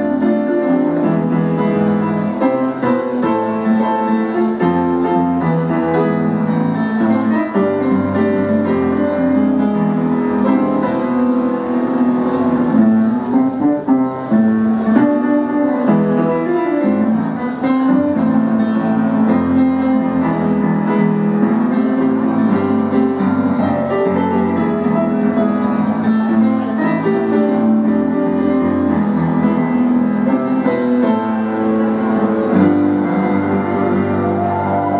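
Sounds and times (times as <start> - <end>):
piano chords and melody: 0.0 - 34.9.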